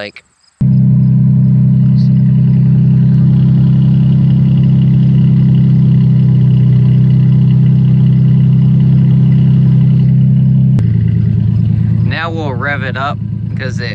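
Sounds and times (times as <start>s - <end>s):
truck engine idling: 0.6s - 13.9s.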